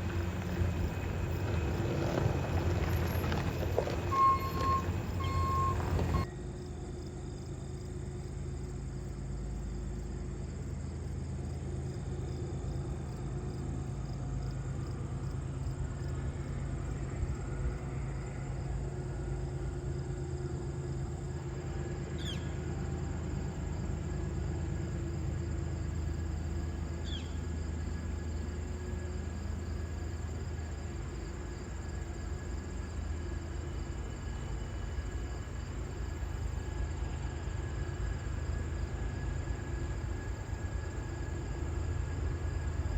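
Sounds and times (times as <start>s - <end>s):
distant locomotive rumble: 0.0s - 42.9s.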